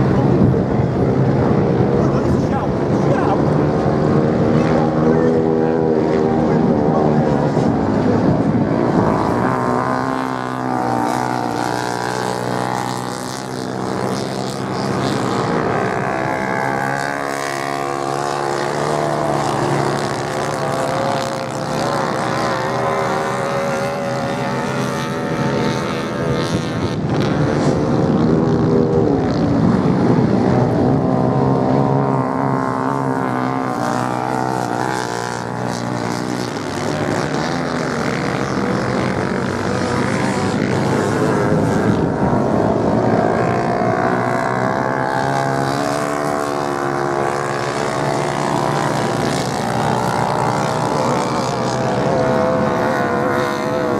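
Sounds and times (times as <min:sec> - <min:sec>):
racing motorcycle engines: 0:00.0 - 0:53.9.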